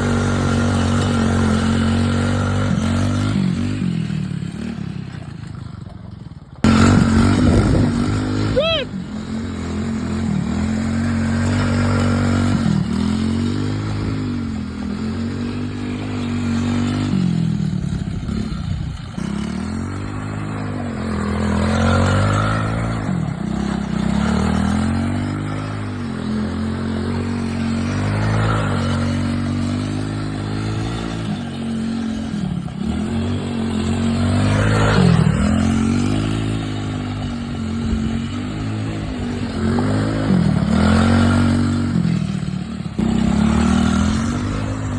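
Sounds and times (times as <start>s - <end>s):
off-road vehicle engine revving: 0.0s - 5.7s, 6.6s - 44.9s.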